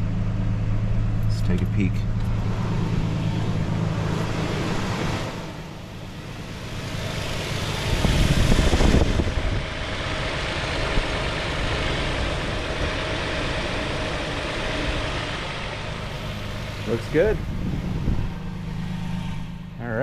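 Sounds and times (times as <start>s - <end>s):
car engine idling: 0.0s - 20.0s
rush of noise: 2.0s - 20.0s.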